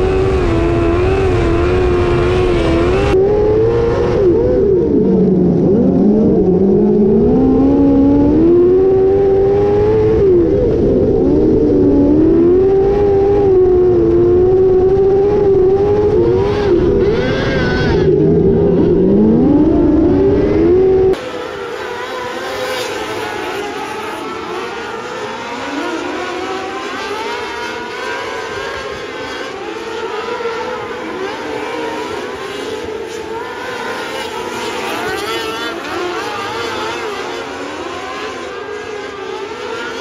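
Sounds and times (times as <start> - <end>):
race car engine at high revs: 0.0 - 40.0
race car engines from the stands: 0.0 - 40.0.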